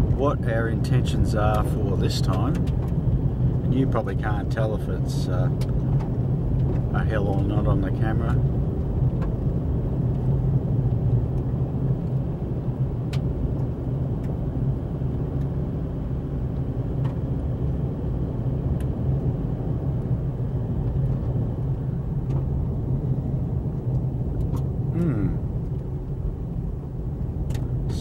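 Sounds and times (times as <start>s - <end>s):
car driving on gravel: 0.0s - 28.0s.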